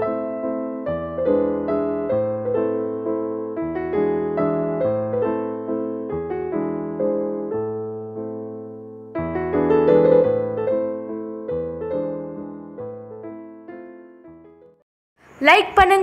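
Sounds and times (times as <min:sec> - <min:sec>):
gentle piano melody: 0:00.0 - 0:14.8.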